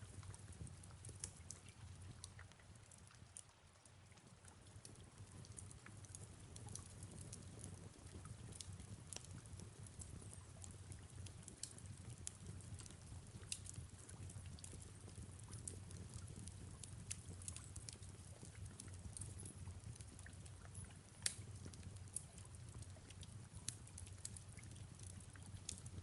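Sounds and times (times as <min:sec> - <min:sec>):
fireplace crackling: 0:00.0 - 0:03.4, 0:04.8 - 0:26.0
soft hiss of rain: 0:00.0 - 0:26.0
fire popping: 0:05.2 - 0:26.0.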